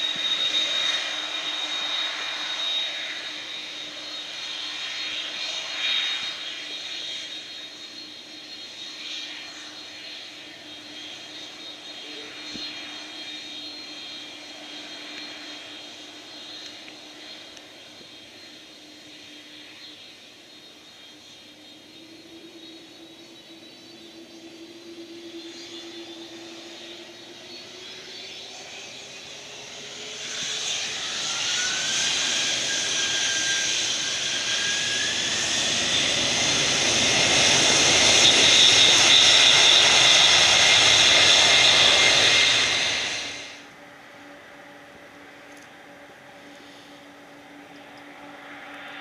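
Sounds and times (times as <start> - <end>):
jet engines whining: 0.0 - 49.0.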